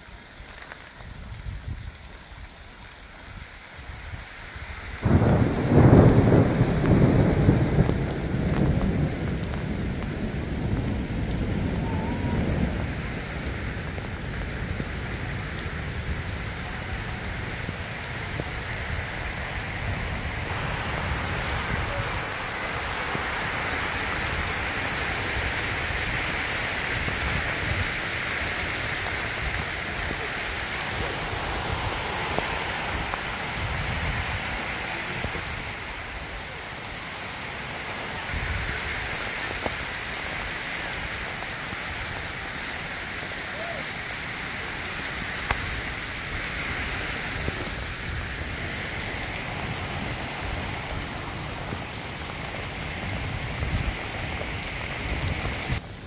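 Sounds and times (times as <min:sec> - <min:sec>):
heavy rain hissing: 0:00.0 - 0:56.0
sharp raindrop taps: 0:04.9 - 0:36.8, 0:37.4 - 0:56.0.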